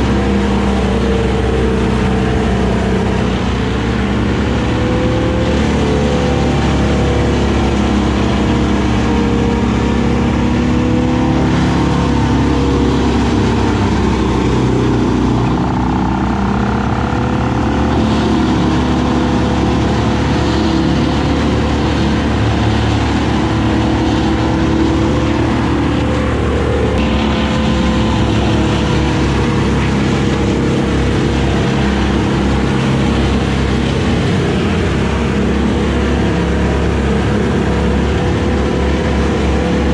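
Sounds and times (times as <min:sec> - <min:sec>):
excavator diesel engine running: 0:00.0 - 0:39.9
wood chipper engine running: 0:00.0 - 0:39.9.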